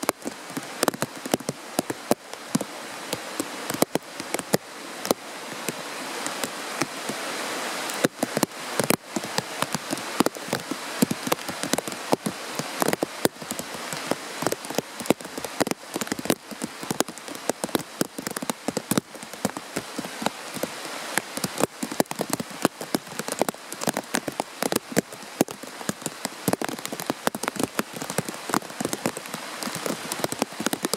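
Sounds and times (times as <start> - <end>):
rain falling on foliage: 0.0 - 30.9.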